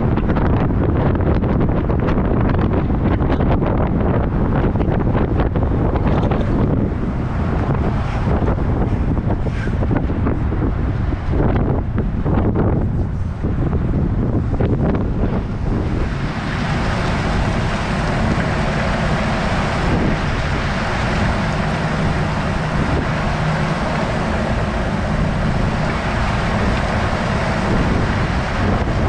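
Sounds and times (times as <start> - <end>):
truck engine and tyres rumbling: 0.0 - 29.0
wind on microphone: 0.0 - 29.0.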